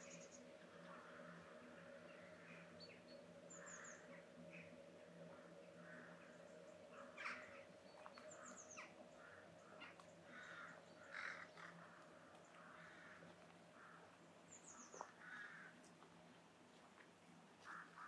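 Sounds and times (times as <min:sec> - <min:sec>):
crows cawing faintly: 0:00.0 - 0:16.2, 0:17.6 - 0:18.0.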